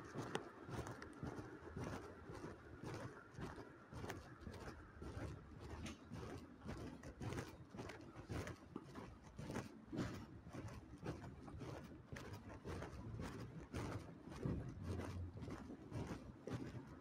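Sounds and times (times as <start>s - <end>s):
footsteps on pavement: 0.0s - 17.0s.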